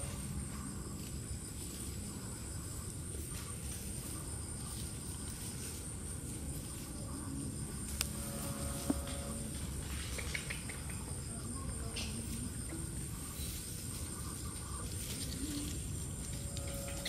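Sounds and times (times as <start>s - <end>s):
high-pitched insect drone: 0.0s - 10.1s, 11.0s - 17.0s
low background noise: 0.0s - 17.0s.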